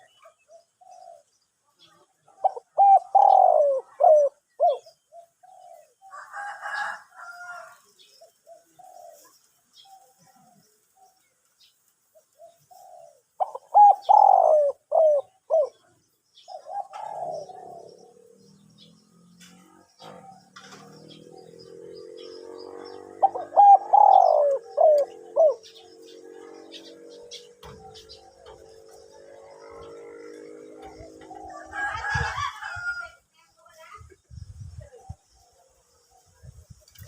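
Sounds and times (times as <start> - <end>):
dove cooing: 0.0 - 6.9, 8.0 - 11.2, 12.1 - 33.0.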